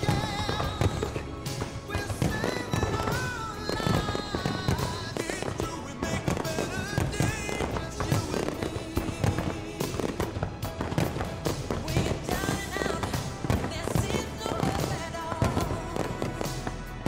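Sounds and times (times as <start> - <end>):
fireworks bangs: 0.0 - 17.0
loud background music: 0.0 - 17.0.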